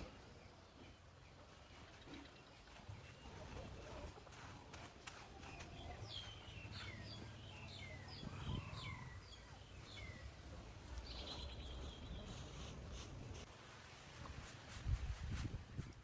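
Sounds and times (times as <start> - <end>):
bird chirping: 0.0 - 13.5.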